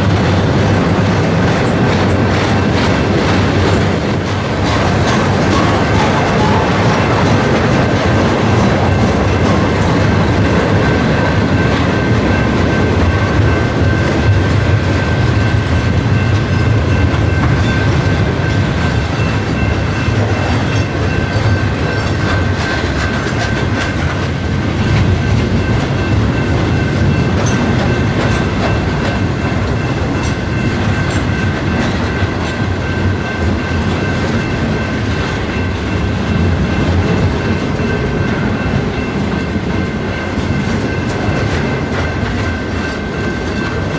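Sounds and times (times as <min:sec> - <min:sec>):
train rumble: 0:00.0 - 0:43.9
train wheels clicking on rails: 0:00.0 - 0:43.9.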